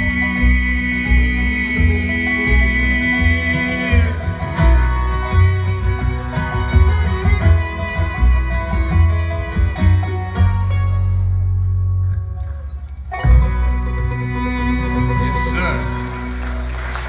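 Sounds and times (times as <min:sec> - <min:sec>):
acoustic guitar: 0:00.0 - 0:17.0
banjo: 0:00.0 - 0:17.0
fiddle lead: 0:00.0 - 0:17.0
mandolin: 0:00.0 - 0:17.0
upright bass: 0:00.0 - 0:17.0.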